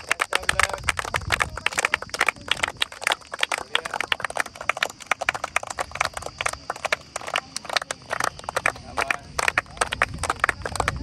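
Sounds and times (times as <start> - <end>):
rapid irregular sharp taps: 0.0 - 11.0.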